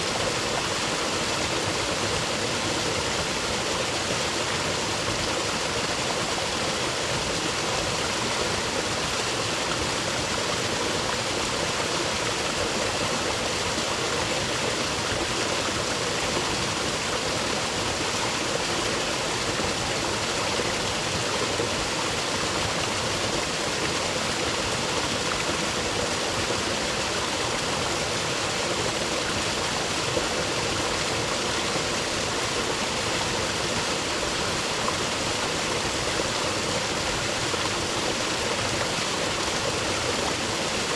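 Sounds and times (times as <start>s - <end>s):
creek rushing over rocks: 0.0s - 40.9s.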